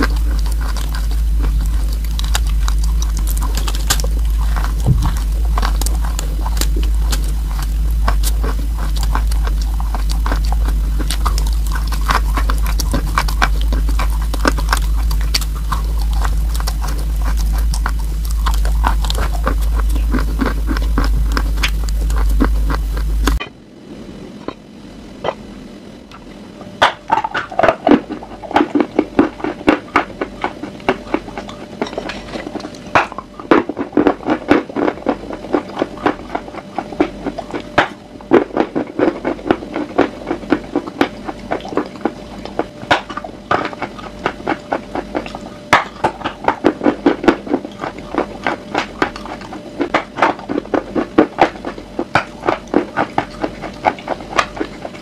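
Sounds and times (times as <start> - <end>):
biting and chewing crunchy chalk: 0.0 - 23.5, 26.6 - 55.0.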